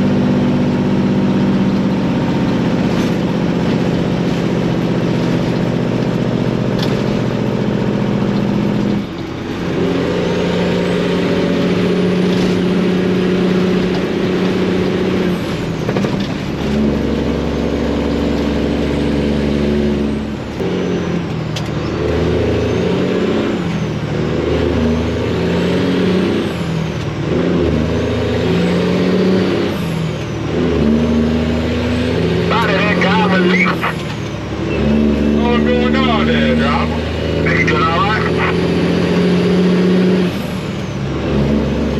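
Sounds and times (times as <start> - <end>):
diesel truck engine under load: 0.0 - 41.9.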